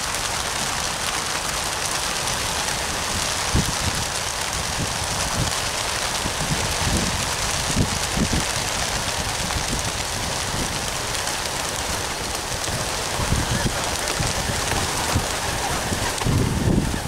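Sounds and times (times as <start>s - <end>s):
pigeon wings flapping: 0.0s - 17.0s.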